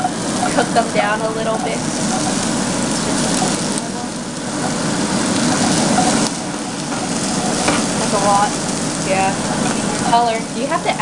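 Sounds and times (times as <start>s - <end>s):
spatula stirring: 0.0s - 10.3s
peppers sizzling in frying pan: 0.0s - 11.0s.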